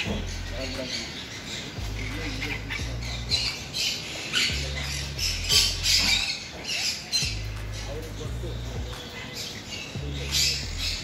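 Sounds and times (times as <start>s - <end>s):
parrots squawking: 0.0s - 11.0s.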